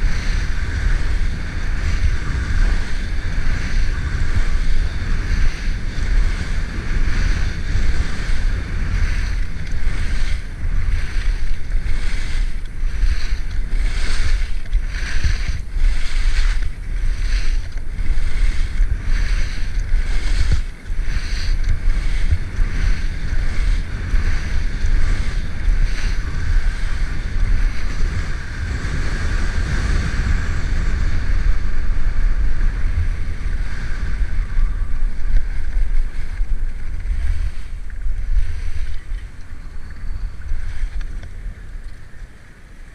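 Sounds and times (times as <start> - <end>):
skis scraping over snow: 0.0 - 42.9
wind buffeting microphone: 0.0 - 42.9.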